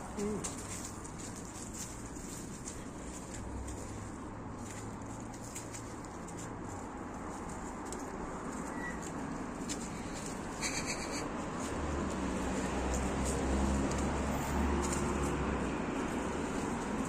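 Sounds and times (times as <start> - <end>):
car engine hum approaching: 0.0 - 17.0.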